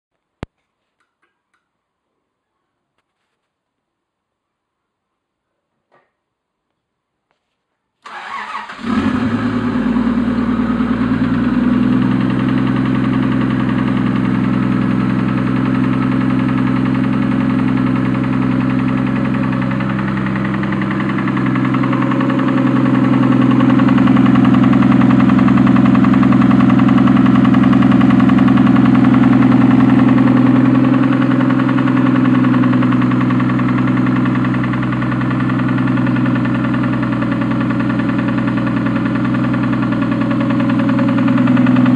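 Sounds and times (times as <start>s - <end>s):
car engine starting and idling: 8.0s - 41.9s.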